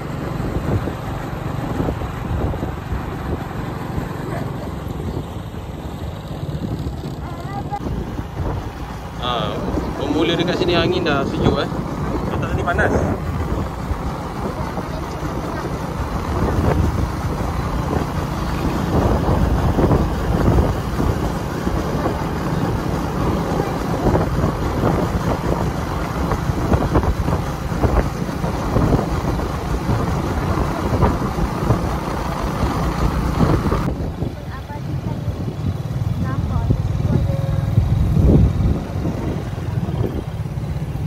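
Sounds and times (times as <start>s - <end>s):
vehicle engine running: 0.0s - 41.0s
wind buffeting microphone: 0.0s - 41.0s.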